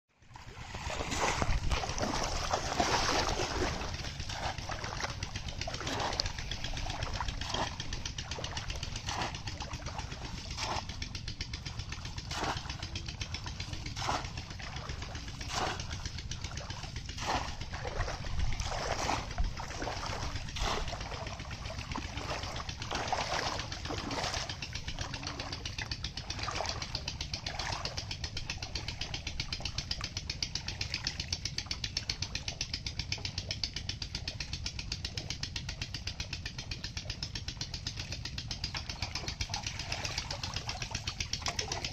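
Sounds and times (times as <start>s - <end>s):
steady low rumble: 0.1s - 41.9s
water splashing and sloshing: 0.2s - 41.9s.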